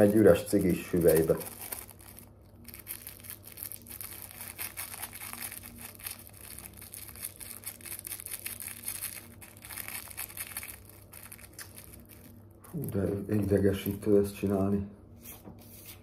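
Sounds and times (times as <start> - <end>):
rolling paper rustling: 0.0 - 14.2
faint low hum: 0.0 - 16.0.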